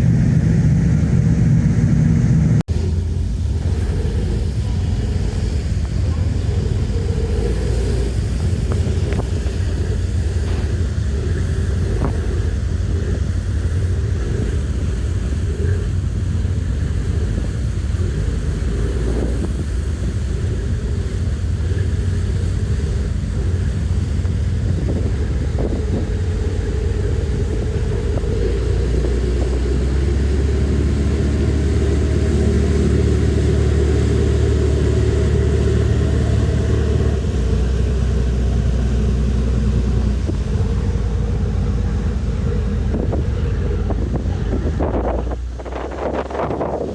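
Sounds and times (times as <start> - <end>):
moving vehicle rumble: 0.0 - 46.9.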